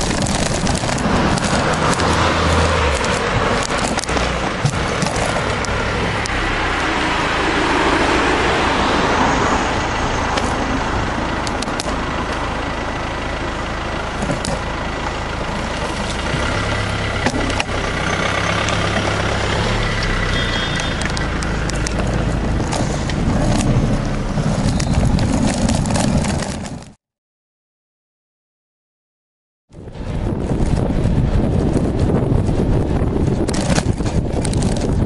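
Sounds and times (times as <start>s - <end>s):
street traffic rumble: 0.0s - 27.0s, 29.7s - 35.0s.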